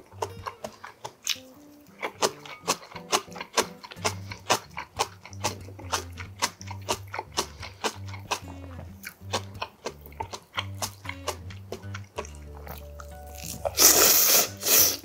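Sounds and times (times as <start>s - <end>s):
background music with bass line: 0.0s - 0.7s, 1.4s - 15.0s
sharp mouth clicks: 0.0s - 15.0s
wet chewing of noodles: 0.0s - 15.0s.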